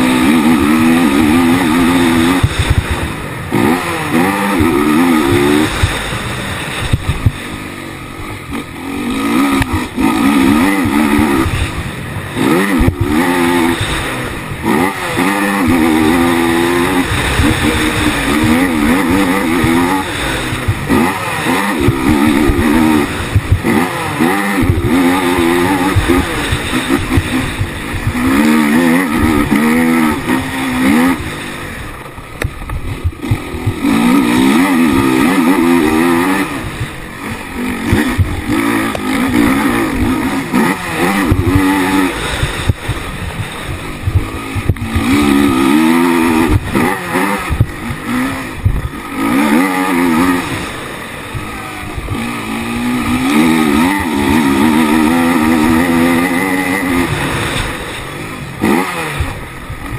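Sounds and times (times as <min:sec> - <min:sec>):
quad engine revving: 0:00.0 - 0:59.9
wind noise on microphone: 0:00.0 - 0:59.9.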